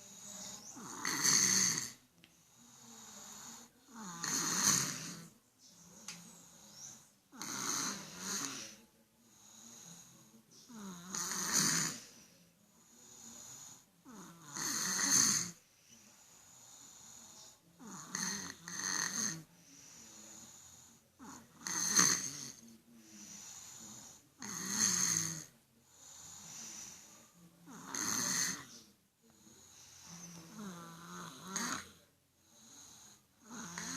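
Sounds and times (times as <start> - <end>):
child snoring: 0.0 - 5.3, 6.4 - 12.2, 13.0 - 15.6, 16.2 - 28.8, 29.4 - 33.9
quiet breaths: 0.0 - 33.9.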